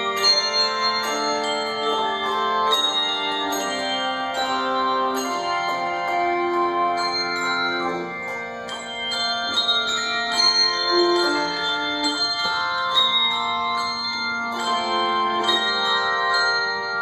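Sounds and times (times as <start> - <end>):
handbell choir ringing: 0.0 - 17.0.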